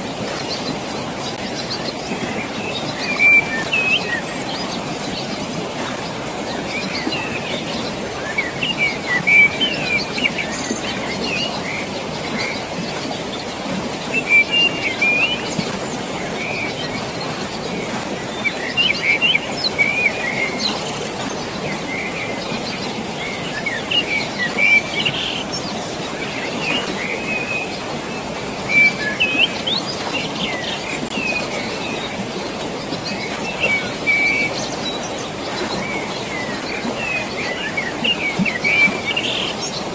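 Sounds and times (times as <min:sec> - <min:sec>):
flowing water: 0:00.0 - 0:39.9
songbirds chirping: 0:00.0 - 0:39.9.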